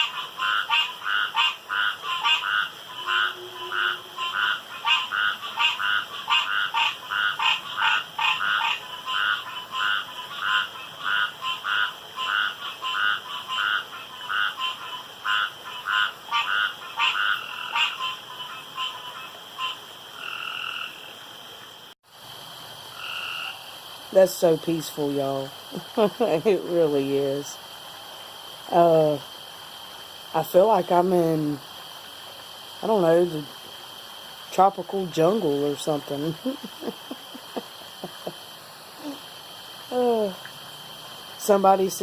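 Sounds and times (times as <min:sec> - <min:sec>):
frogs croaking: 0:00.0 - 0:42.0.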